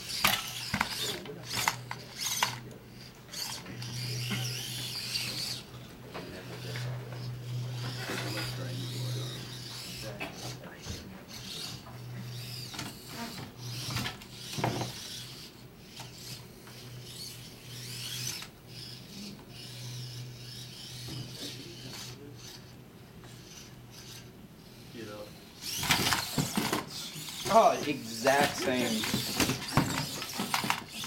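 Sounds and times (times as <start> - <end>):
wheels scraping on wood: 0.0 - 22.7, 25.6 - 31.0
low servo hum: 0.0 - 31.0.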